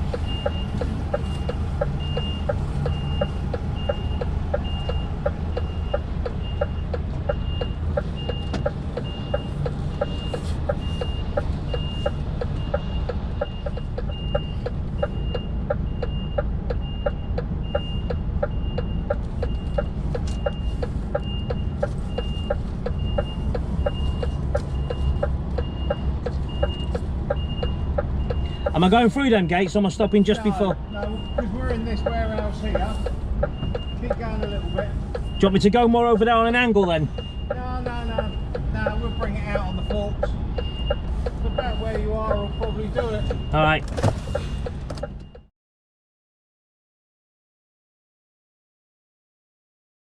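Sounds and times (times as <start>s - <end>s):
faint ticking: 0.0s - 43.7s
diesel engine running: 0.0s - 45.4s
reversing alarm beeping: 0.0s - 45.5s.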